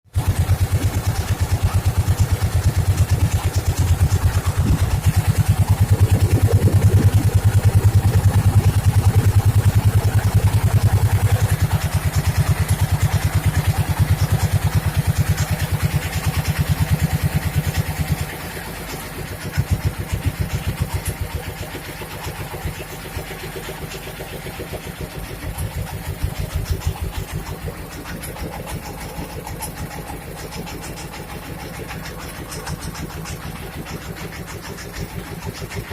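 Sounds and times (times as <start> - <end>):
boat engine throbbing: 0.0 - 35.9.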